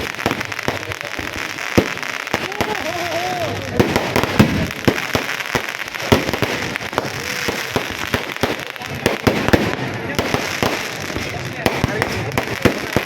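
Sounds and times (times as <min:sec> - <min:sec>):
firecrackers popping: 0:00.0 - 0:13.0.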